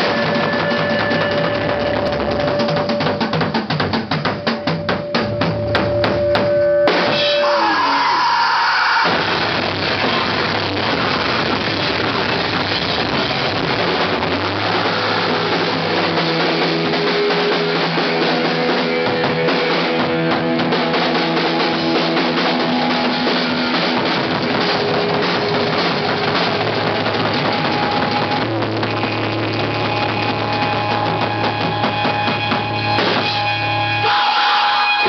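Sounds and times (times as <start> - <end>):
live rock band playing: 0.0 - 8.2, 9.0 - 35.0.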